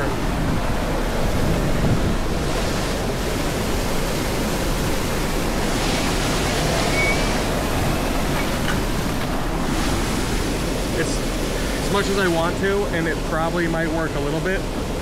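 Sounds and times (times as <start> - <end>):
rushing whitewater roar: 0.0 - 15.0
wind buffeting microphone: 0.0 - 15.0.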